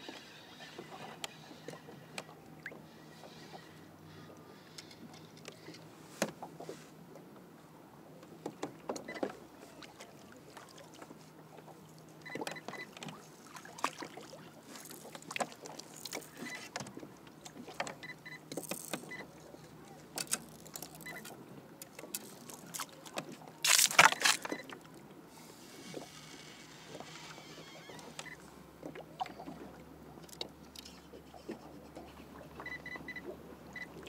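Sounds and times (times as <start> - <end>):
small water sounds: 0.0 - 34.0.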